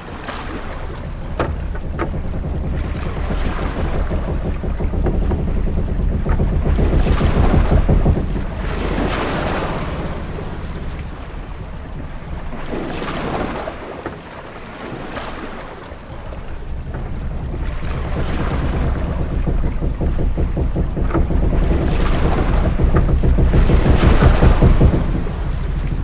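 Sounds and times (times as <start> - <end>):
waves washing against ship hull: 0.0 - 26.0
low rumble: 0.1 - 14.3, 16.0 - 26.0.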